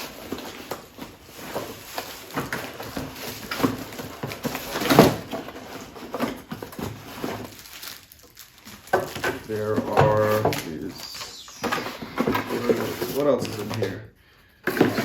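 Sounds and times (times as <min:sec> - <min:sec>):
packaging rustling: 0:00.0 - 0:14.0.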